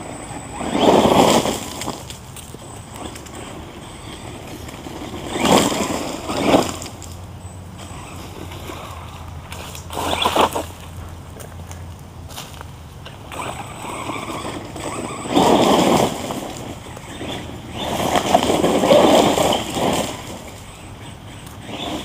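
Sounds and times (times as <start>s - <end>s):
electric toy truck rushing past: 0.0s - 11.4s, 13.0s - 22.0s.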